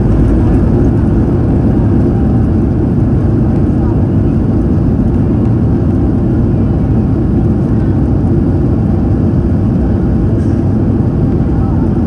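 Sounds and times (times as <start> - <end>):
aircraft cabin low rumble: 0.0 - 12.0
jet engines running: 0.0 - 12.0.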